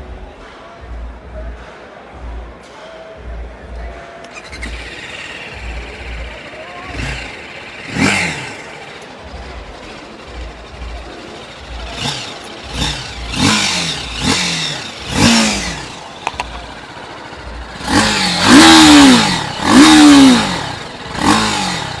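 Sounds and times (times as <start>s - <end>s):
motorcycle engine revving: 4.2s - 22.0s.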